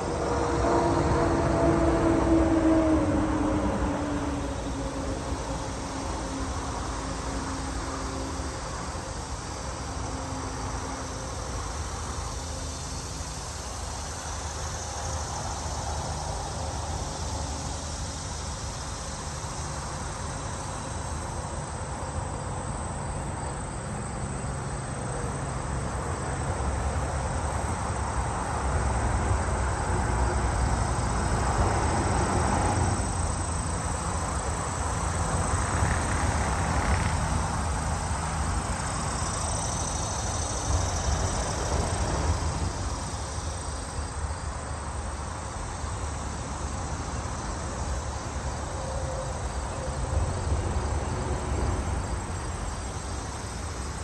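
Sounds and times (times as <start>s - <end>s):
traffic rumble: 0.0s - 54.0s
insects chirring: 4.5s - 54.0s.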